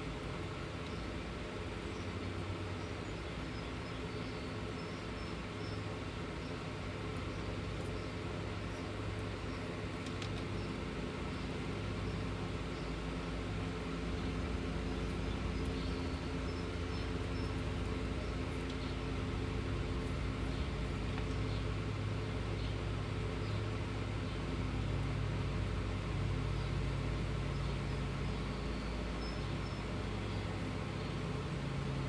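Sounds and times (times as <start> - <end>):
motor humming: 0.0 - 32.0.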